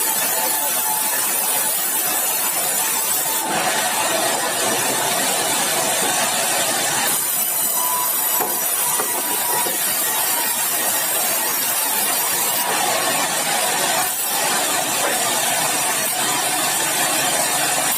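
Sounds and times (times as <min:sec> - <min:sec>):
sawmill saw cutting timber: 0:00.0 - 0:17.9.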